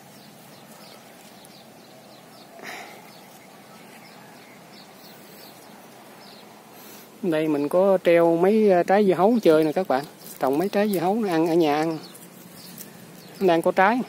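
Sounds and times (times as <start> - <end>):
faint birds chirping: 0.0 - 14.0
outdoor background hiss: 0.0 - 14.0.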